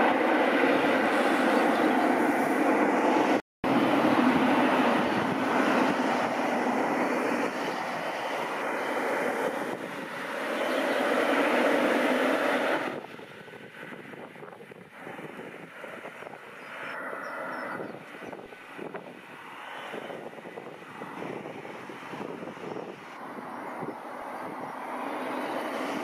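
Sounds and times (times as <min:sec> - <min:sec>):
jet engines whining and rumbling: 0:00.0 - 0:26.0.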